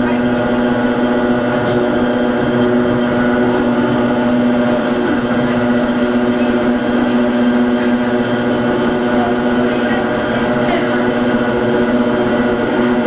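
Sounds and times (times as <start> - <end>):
electric motor whine: 0.0 - 13.0
railcar running rumble: 0.0 - 13.0.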